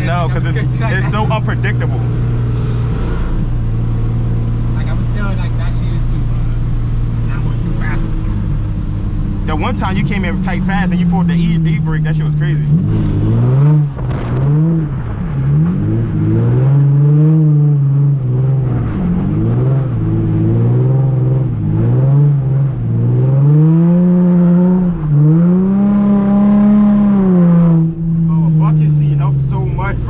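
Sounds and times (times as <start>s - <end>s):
car engine revving hard: 0.0s - 30.0s.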